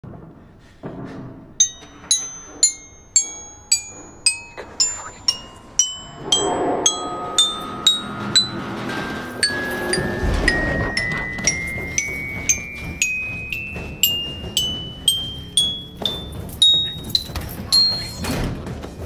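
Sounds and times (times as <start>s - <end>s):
bell-like melody: 1.6s - 18.4s
soft music bed: 1.6s - 19.0s.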